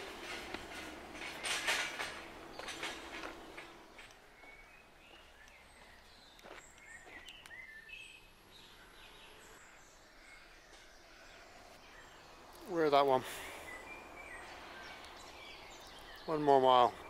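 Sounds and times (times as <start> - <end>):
distant machinery hum: 0.0 - 7.6, 8.6 - 17.0
small birds chirping: 0.0 - 17.0.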